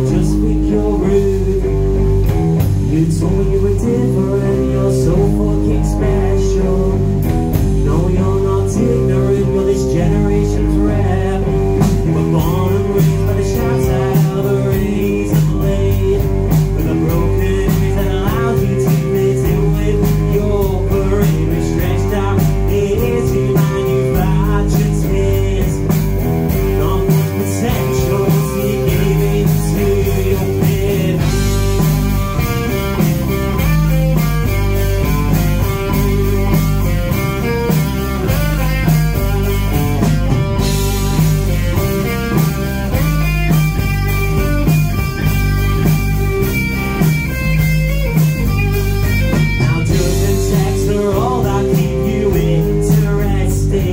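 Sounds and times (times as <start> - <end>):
bass guitar: 0.0 - 53.9
drum kit with cymbals: 0.0 - 53.9
electric guitar: 0.0 - 53.9.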